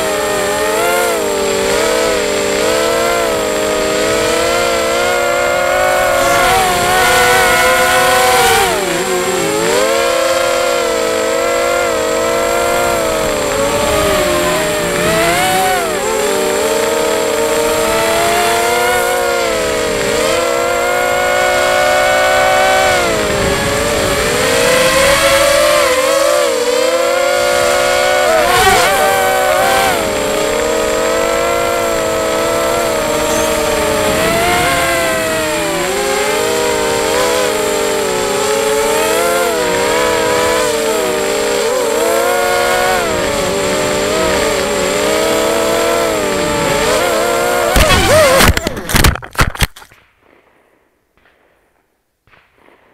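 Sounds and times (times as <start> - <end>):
quadcopter motors whining: 0.0 - 49.6.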